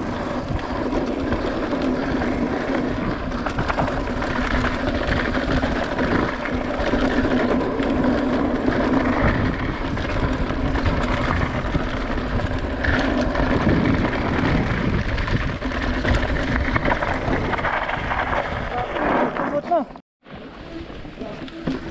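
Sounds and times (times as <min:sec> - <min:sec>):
bike rattling: 0:00.0 - 0:21.9
wind and tyre noise: 0:00.0 - 0:21.9.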